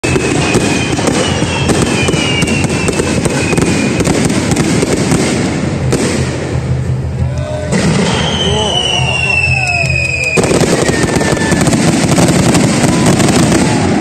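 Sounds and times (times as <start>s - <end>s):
fireworks crackling: 0.0s - 14.0s
fireworks whistling: 0.0s - 14.0s
low rumble of bursts: 0.0s - 14.0s.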